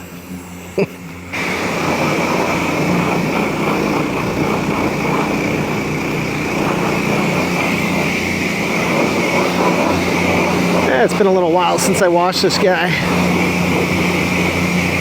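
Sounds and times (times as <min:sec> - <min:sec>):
pressure washer spray hissing: 0:00.0 - 0:15.0.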